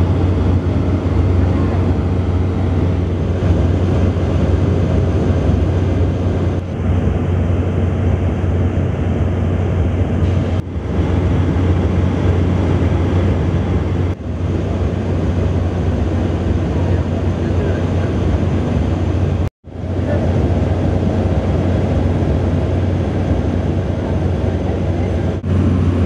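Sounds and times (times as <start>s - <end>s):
low engine drone: 0.0s - 26.0s
wind noise: 0.0s - 26.0s.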